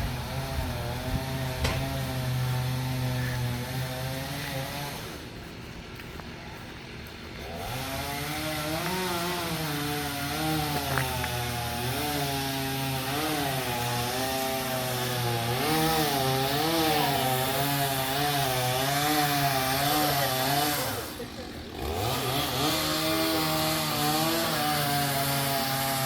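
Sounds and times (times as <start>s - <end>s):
chainsaw cutting wood: 0.0s - 5.4s, 7.3s - 26.0s.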